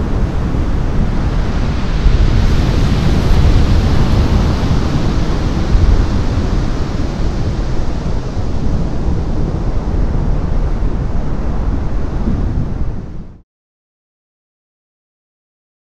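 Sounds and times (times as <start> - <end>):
heavy surf rumbling: 0.0 - 13.4
wind buffeting microphone: 0.0 - 13.4.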